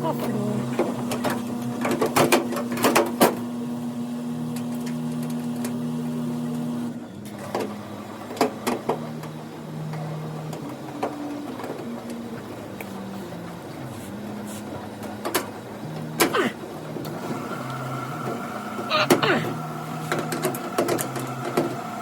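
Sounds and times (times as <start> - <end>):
electric motor hum: 0.0 - 22.0.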